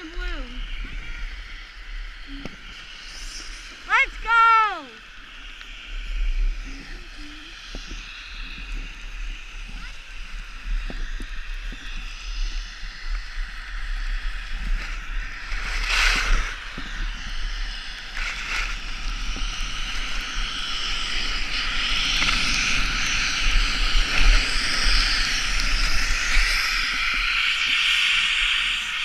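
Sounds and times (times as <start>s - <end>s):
skis scraping over snow: 2.3s - 29.0s.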